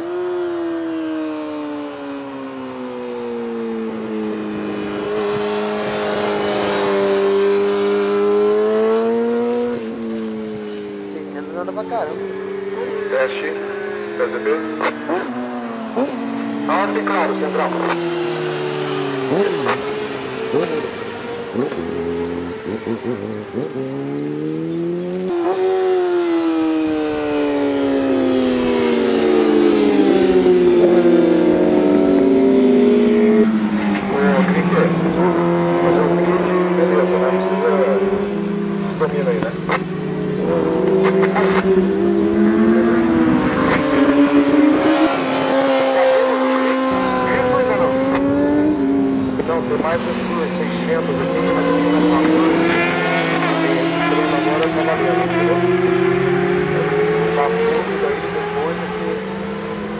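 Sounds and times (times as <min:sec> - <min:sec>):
motorcycle passing by: 0:00.0 - 0:59.9.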